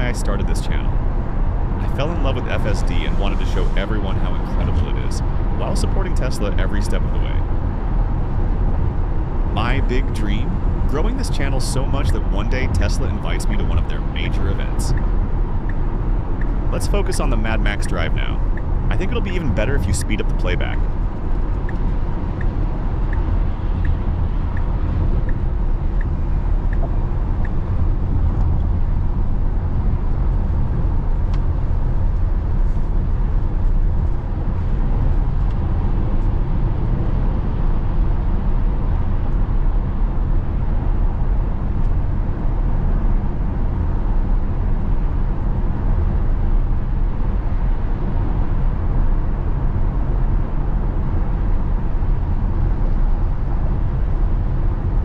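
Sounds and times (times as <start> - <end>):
tyre and road noise: 0.0 - 55.0.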